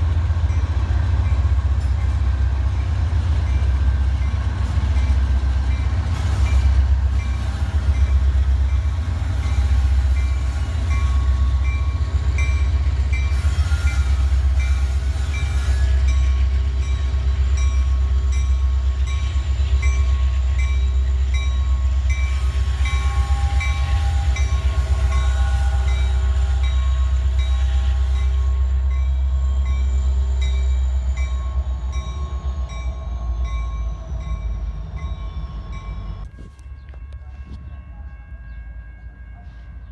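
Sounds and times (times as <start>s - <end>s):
high ringing from wheels and rails: 0.0s - 39.9s
train rumbling past: 0.0s - 39.9s.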